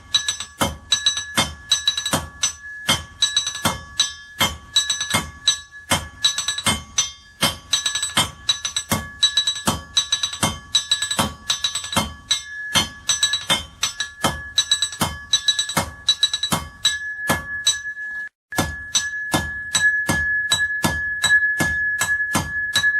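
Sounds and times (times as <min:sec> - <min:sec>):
hammer forging iron on anvil: 0:00.0 - 0:22.9.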